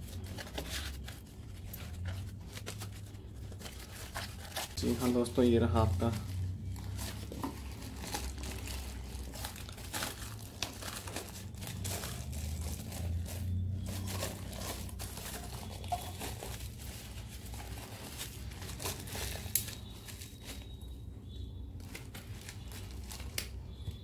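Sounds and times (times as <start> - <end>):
cardboard and plastic wrap crinkling: 0.0 - 24.0.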